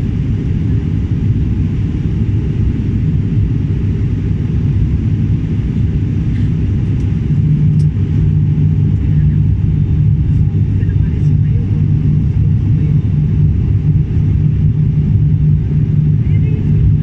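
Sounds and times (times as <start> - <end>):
airliner cabin engine rumble: 0.0 - 17.0
steady low drone: 0.0 - 17.0.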